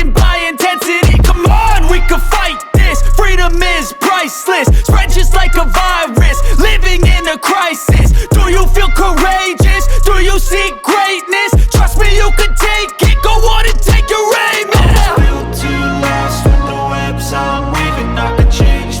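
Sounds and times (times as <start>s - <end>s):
hip-hop beat with heavy bass: 0.0s - 19.0s
person rapping: 0.0s - 19.0s.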